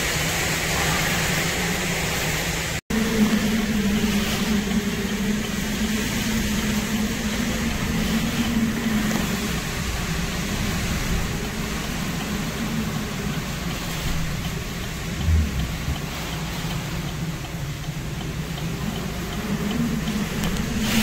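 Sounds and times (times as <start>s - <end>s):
driving rain: 0.0s - 21.0s
roaring hurricane wind: 0.0s - 21.0s.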